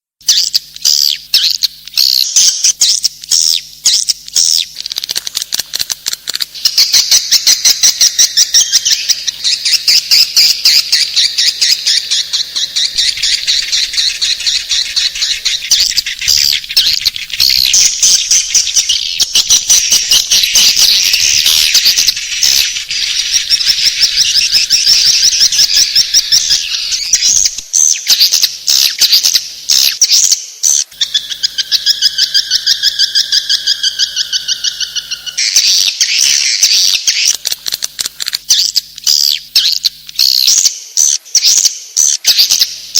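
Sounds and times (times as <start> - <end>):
swiftlets twittering and clicking: 0.3 - 30.0, 30.9 - 40.6.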